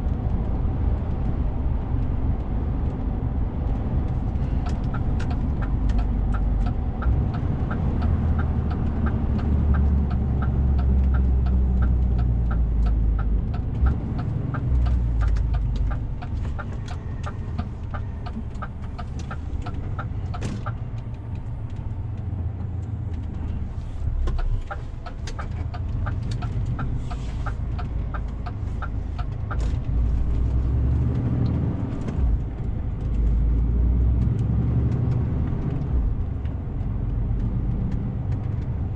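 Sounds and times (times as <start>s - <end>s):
truck engine rumble: 0.0s - 38.9s
turn signal ticking: 0.0s - 38.9s.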